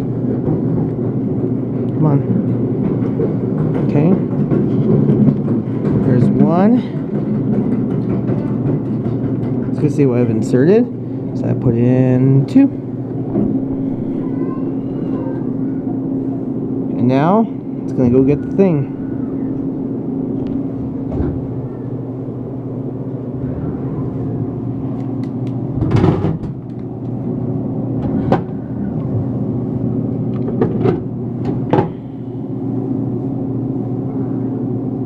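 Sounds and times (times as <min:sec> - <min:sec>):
vending machine motor hum: 0:00.0 - 0:35.0.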